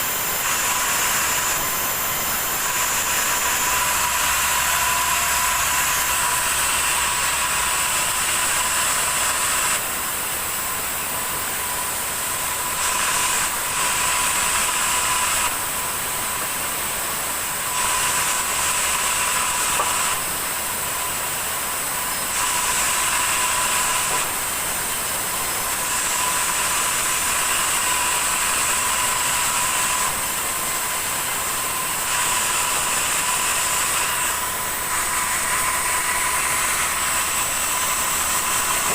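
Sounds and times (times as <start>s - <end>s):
sawmill saw whining: 0.0s - 38.9s.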